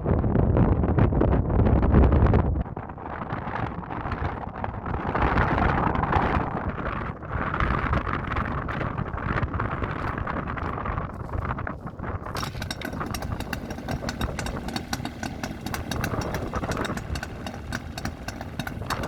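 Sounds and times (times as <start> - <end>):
wind buffeting microphone: 0.0 - 19.0
motorcycle engine running: 2.8 - 19.0.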